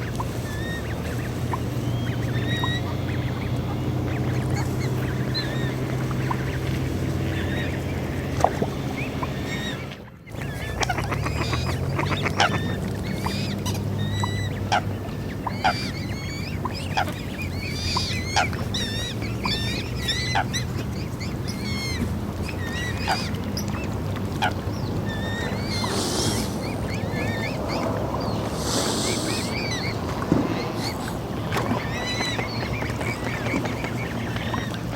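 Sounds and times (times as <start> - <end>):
low rumble of water: 0.0 - 34.9
small birds chirping: 0.0 - 34.9
waterfowl calling: 0.0 - 34.9
wind: 0.0 - 34.9.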